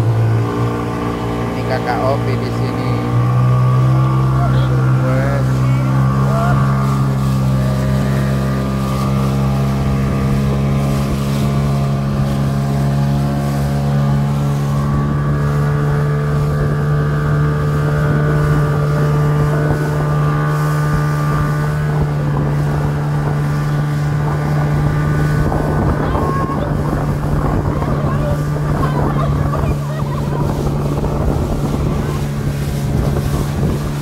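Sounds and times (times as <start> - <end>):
speedboat engine droning: 0.0 - 34.0
wind buffeting microphone: 2.7 - 34.0.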